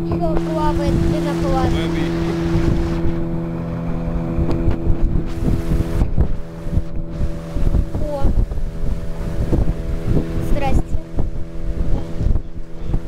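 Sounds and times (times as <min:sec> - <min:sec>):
boat motor humming: 0:00.0 - 0:13.0
wind buffeting microphone: 0:00.0 - 0:13.0.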